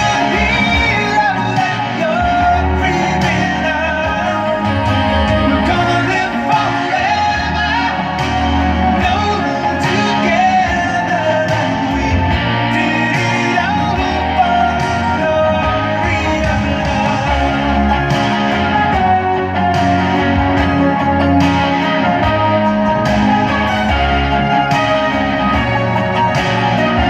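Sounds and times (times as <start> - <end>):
song with singing on car speakers: 0.0 - 27.0.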